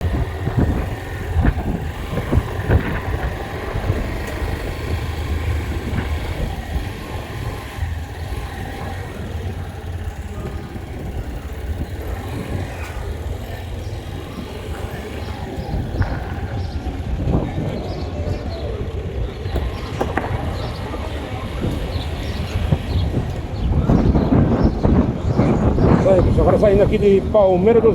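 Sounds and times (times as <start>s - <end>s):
vehicle engine and road noise: 0.0s - 27.9s.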